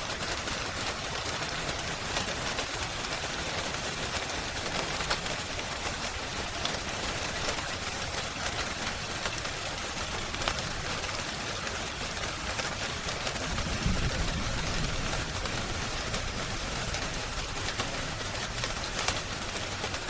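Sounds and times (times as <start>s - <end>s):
steady rain hiss: 0.0s - 20.0s
wood fire crackling: 0.1s - 20.0s.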